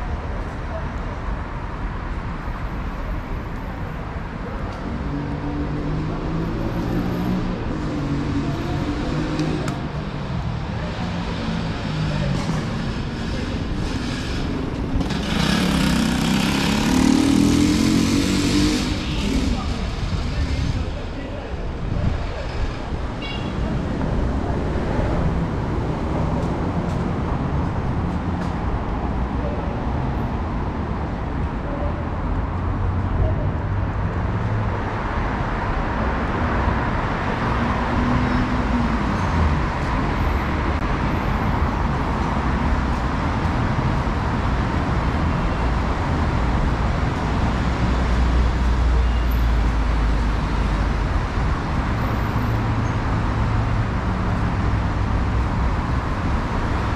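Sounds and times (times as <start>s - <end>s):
road traffic rumble: 0.0s - 56.9s.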